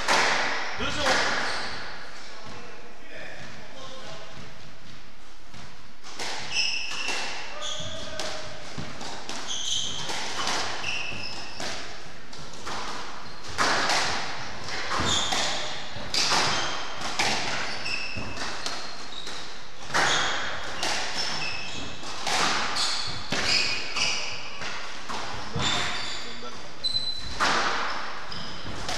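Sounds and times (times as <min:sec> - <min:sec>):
squash ball hitting rackets and walls: 0:00.0 - 0:26.2, 0:27.0 - 0:28.9
shoes squeaking on wooden floor: 0:03.5 - 0:14.0, 0:14.6 - 0:28.9.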